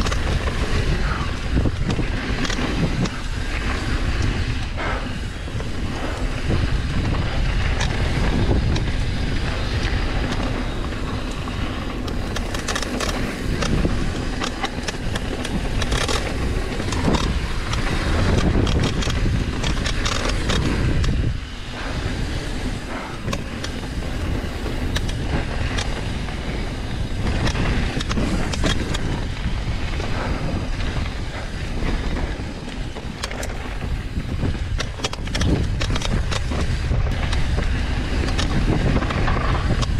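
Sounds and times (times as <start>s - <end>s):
bike clicks and clattering: 0.0s - 39.9s
tyres rolling on dirt: 0.0s - 39.9s
wind rushing over camera: 0.0s - 39.9s.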